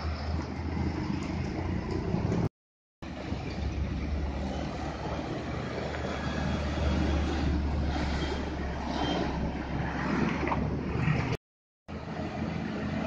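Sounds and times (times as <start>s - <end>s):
road traffic noise: 0.0s - 13.0s
truck diesel engines humming: 0.0s - 13.0s.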